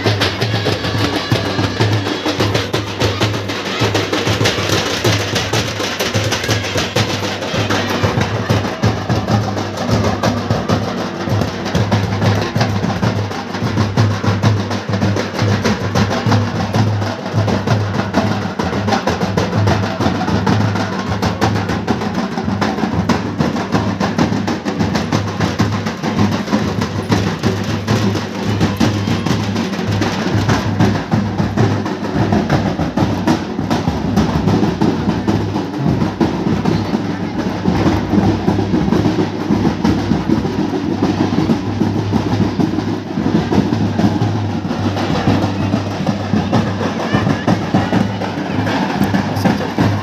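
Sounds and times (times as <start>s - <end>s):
crowd voices: 0.0s - 50.0s
drums playing dance rhythm: 0.0s - 50.0s.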